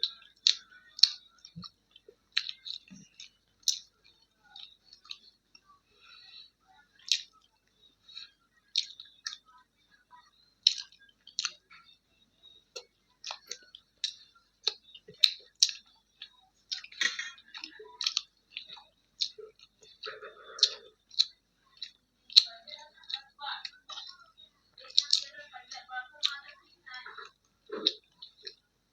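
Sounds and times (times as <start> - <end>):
mouth smacks and chewing: 0.0 - 28.9.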